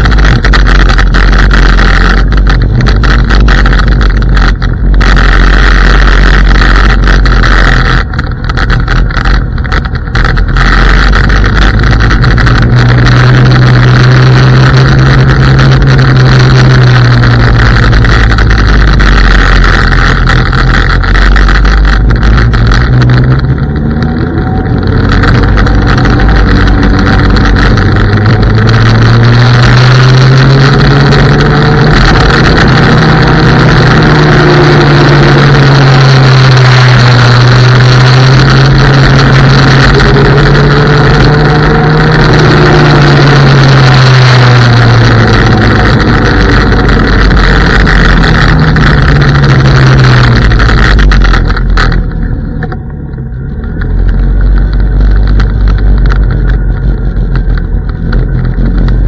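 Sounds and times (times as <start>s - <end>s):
low motor hum: 0.0s - 59.0s
tyre noise on asphalt: 0.0s - 59.0s
wind rush on microphone: 0.0s - 59.0s.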